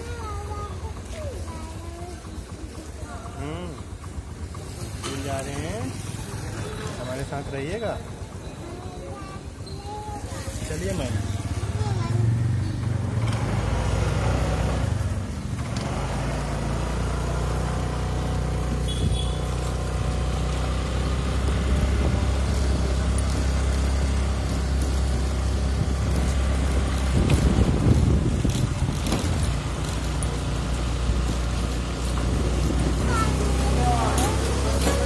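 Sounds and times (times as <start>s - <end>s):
motor scooter engine running: 0.0s - 35.0s.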